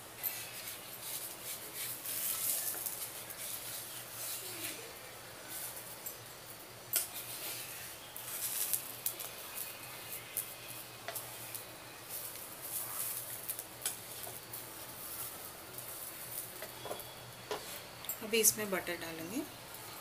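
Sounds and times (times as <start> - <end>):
faint steady hiss: 0.0 - 20.0
spatula scraping on iron griddle: 0.2 - 5.8, 7.0 - 18.0.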